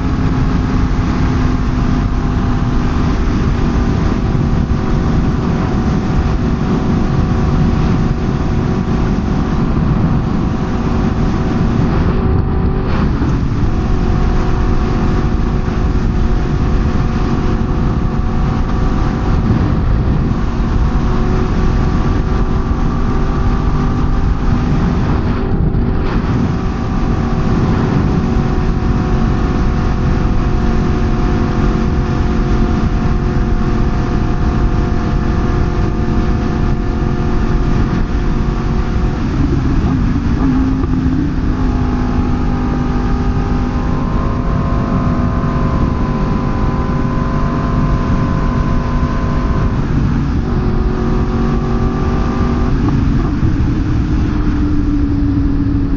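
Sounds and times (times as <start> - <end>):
motorcycle engine cruising: 0.0 - 55.9
wind rush: 0.0 - 55.9.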